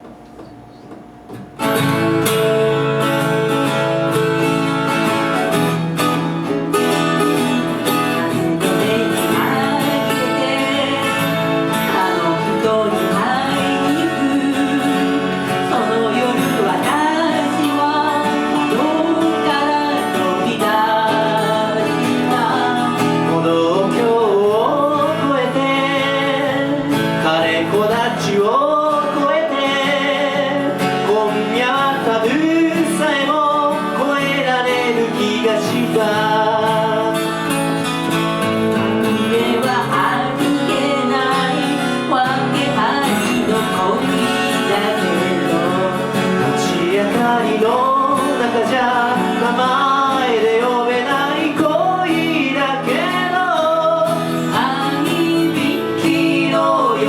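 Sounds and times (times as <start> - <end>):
guitar: 0.0 - 57.0
pop ballad instrumental: 1.0 - 57.0.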